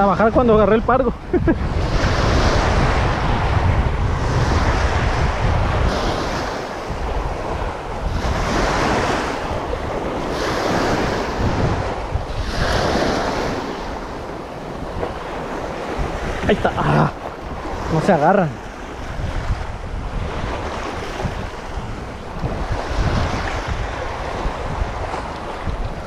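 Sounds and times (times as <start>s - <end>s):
waves breaking on rocky shore: 0.0s - 26.0s
wind buffeting microphone: 0.0s - 26.0s.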